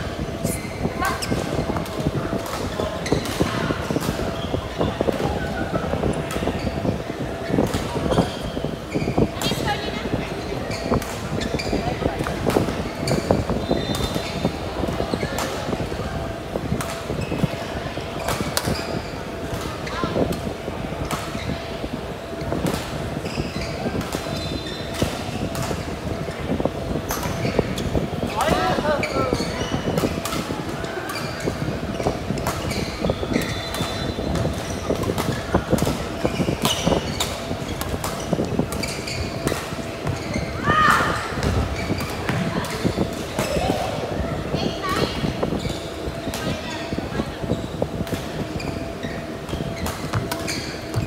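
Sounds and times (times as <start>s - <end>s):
steady background noise: 0.0s - 51.0s
shoes squeaking on court floor: 0.2s - 20.4s, 21.0s - 51.0s.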